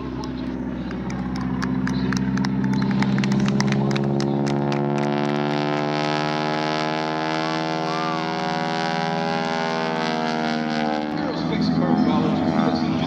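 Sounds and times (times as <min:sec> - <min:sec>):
propeller aircraft engine buzzing: 0:00.0 - 0:13.0.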